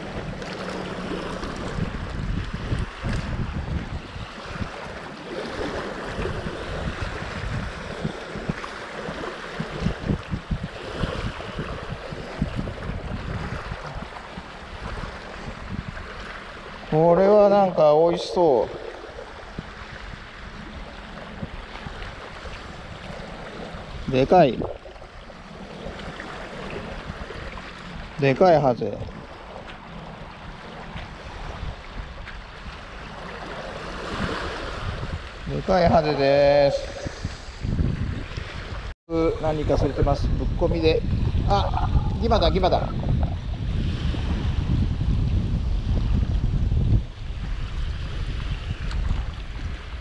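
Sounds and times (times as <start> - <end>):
small waves washing on shore: 0.0 - 50.0
wind buffeting microphone: 0.0 - 50.0.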